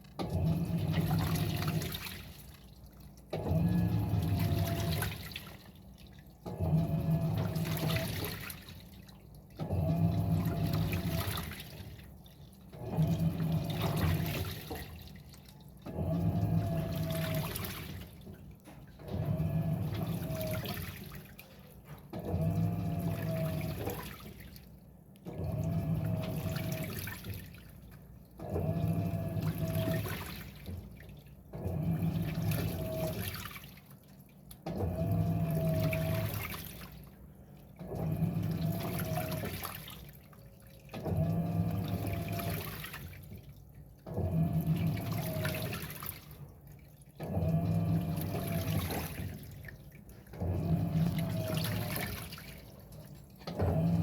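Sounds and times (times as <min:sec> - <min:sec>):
washing machine motor hum: 0:00.0 - 0:54.0
water sloshing in washing machine: 0:00.0 - 0:54.0.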